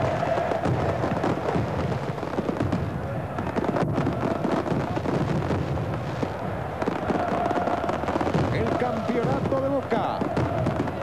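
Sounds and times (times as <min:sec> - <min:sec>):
fireworks crackling and banging: 0:00.0 - 0:11.0
stadium crowd noise: 0:00.0 - 0:11.0.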